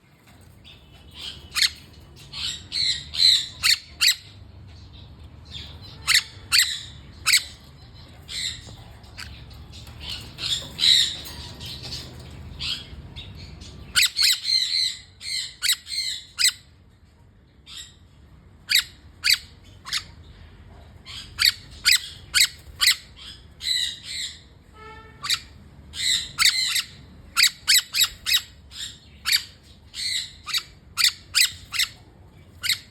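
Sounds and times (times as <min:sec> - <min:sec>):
low background hum: 0:00.0 - 0:32.9
birds squawking: 0:00.2 - 0:16.7, 0:17.7 - 0:20.3, 0:21.0 - 0:24.6, 0:25.2 - 0:32.9.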